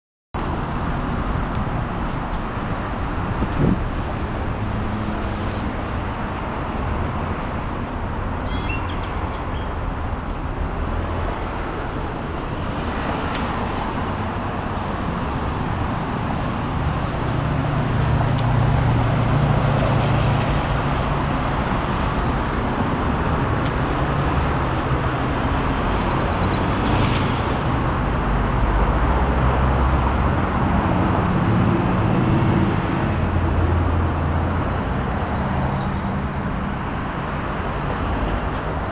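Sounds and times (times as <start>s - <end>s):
street traffic hum: 0.4s - 38.9s.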